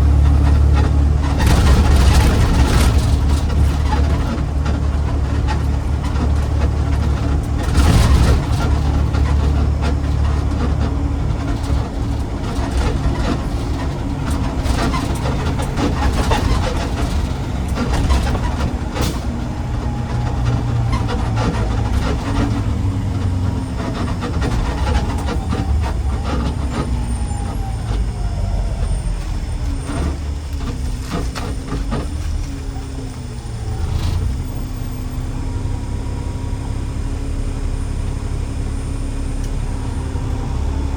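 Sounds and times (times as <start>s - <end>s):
rattling and clatter: 0.0s - 34.5s
garbage truck engine drone: 0.0s - 40.9s.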